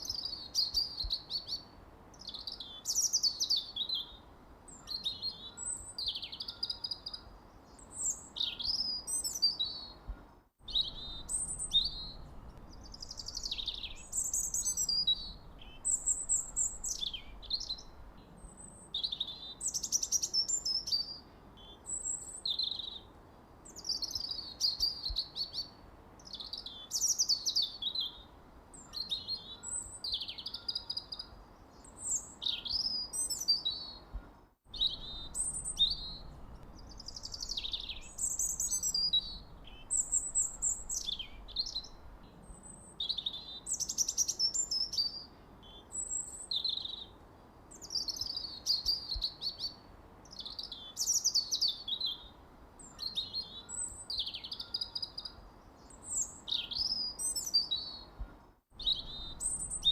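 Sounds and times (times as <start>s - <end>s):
songbirds chirping and singing: 0.0s - 23.1s, 23.7s - 47.2s, 47.8s - 59.9s.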